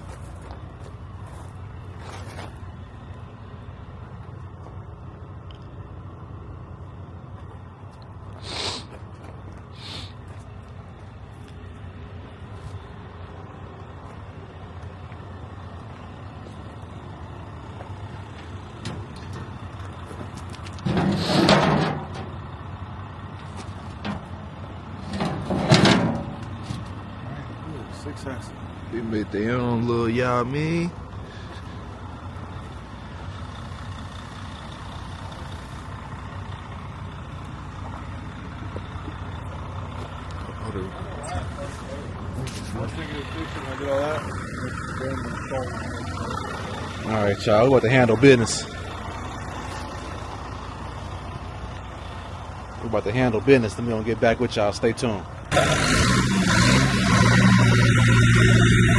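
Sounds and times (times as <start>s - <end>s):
truck engine idling: 0.0s - 58.9s.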